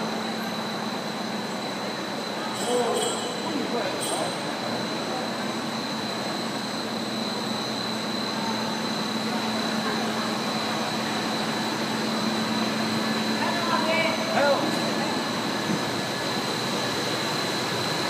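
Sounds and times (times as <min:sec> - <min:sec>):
high steady machine whine: 0:00.0 - 0:18.0.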